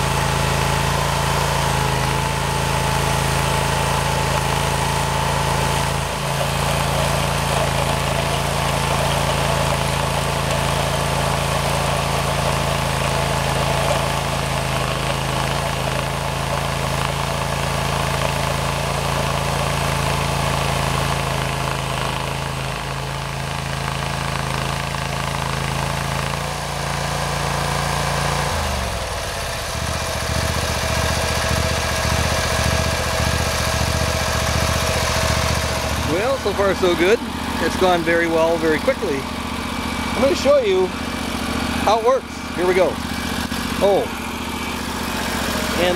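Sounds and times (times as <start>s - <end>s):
digging chain cutting turf: 0.0s - 45.9s
trencher engine running under load: 0.0s - 45.9s.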